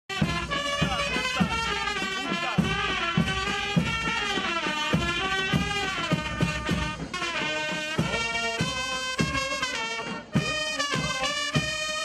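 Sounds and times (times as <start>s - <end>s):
steady drum beat: 0.1s - 12.0s
sustained melody: 0.1s - 12.0s.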